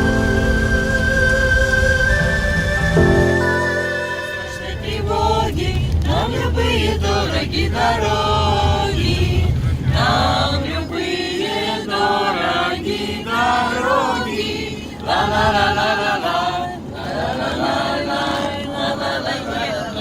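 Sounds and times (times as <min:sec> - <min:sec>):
voices singing a chant: 0:00.0 - 0:20.0.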